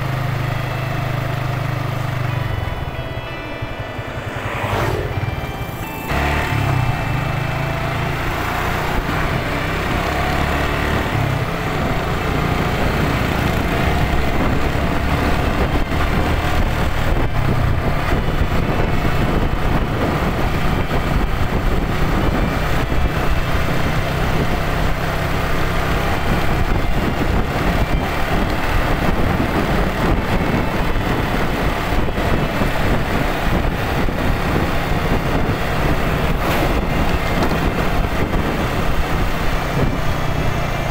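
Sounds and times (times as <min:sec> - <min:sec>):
motorcycle engine droning: 0:00.0 - 0:40.9
road noise: 0:00.0 - 0:40.9
wind on microphone: 0:02.2 - 0:40.9.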